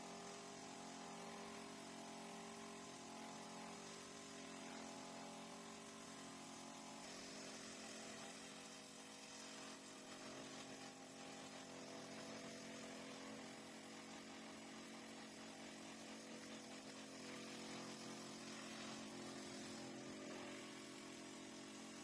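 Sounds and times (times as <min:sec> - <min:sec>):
hiss: 0:00.0 - 0:22.0.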